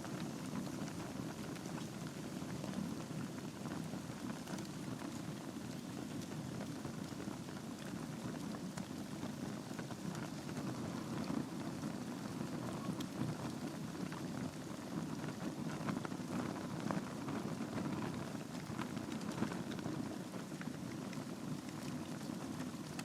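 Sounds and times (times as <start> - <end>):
logs crackling and popping: 0.0 - 23.0
fire flames rushing: 0.1 - 23.0.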